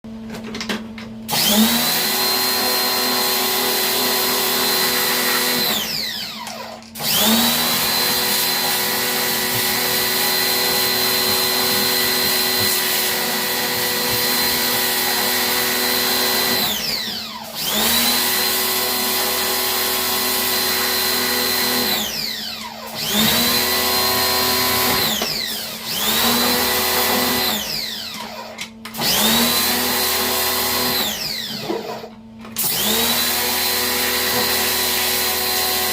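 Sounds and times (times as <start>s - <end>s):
pressure washer motor whining: 1.3s - 35.9s.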